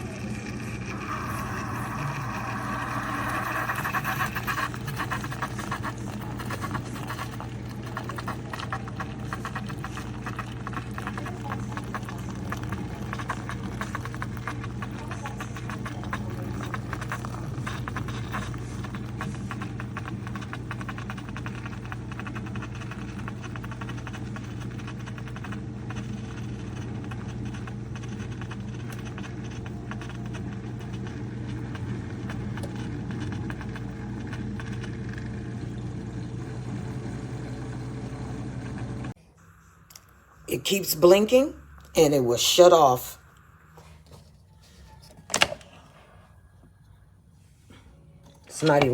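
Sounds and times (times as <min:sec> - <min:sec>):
coffee maker pump humming: 0:00.0 - 0:48.9.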